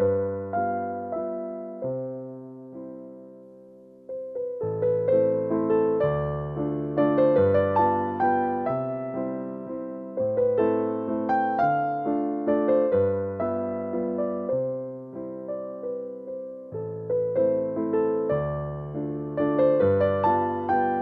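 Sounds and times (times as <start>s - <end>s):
gentle keyboard music: 0.0s - 21.0s.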